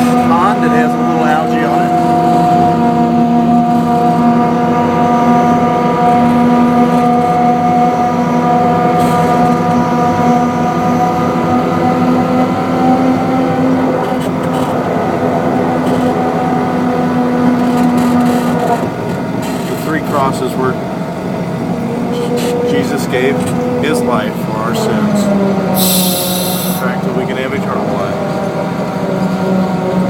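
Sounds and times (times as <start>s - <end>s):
diesel locomotive engine whining: 0.0s - 30.0s.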